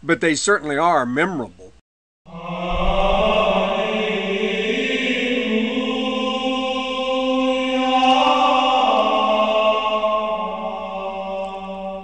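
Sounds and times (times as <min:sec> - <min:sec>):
voices singing a slow chant: 0:02.3 - 0:12.0.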